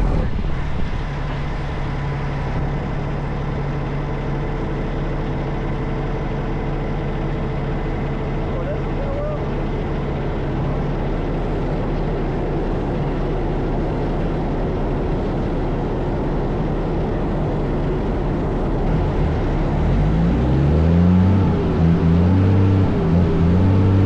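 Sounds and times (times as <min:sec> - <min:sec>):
truck diesel engine droning: 0:00.0 - 0:24.0.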